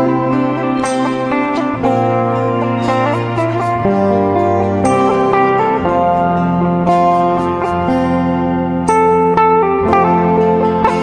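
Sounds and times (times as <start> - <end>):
held bass: 0.0 - 11.0
plucked guitar notes: 0.0 - 11.0.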